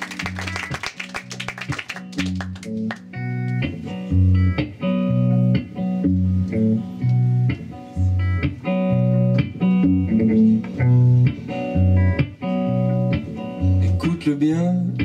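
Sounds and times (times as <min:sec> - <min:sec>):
solo electric guitar: 0:00.0 - 0:15.0.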